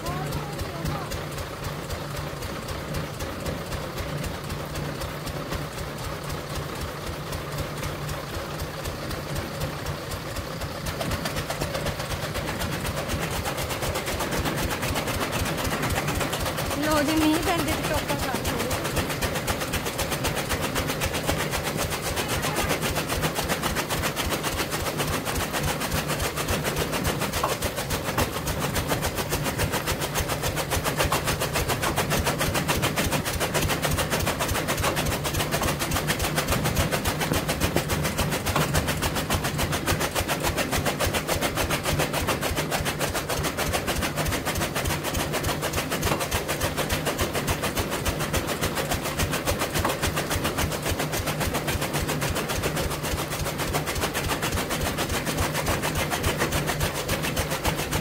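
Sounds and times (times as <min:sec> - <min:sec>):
low machine hum: 0:00.0 - 0:58.0
chaff cutter chopping rattle: 0:06.7 - 0:58.0.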